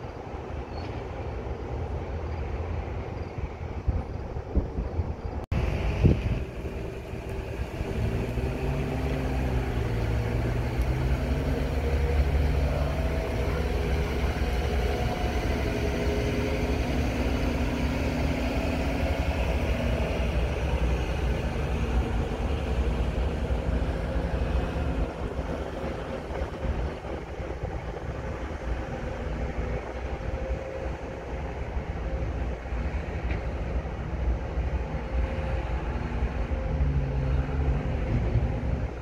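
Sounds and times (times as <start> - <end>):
diesel locomotive rumble: 0.0 - 39.0.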